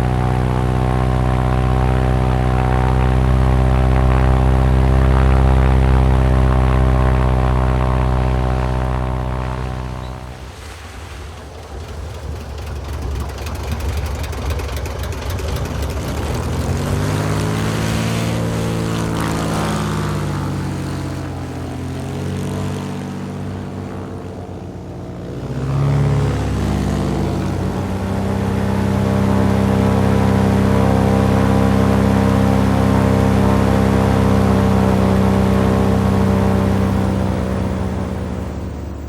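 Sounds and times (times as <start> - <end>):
airboat engine and propeller: 0.0 - 39.0.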